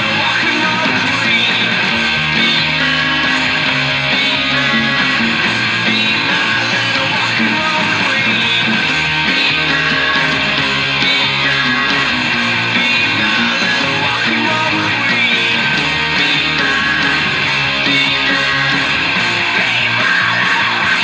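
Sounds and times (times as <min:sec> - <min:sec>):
guitar strummed rock and roll: 0:00.0 - 0:21.0.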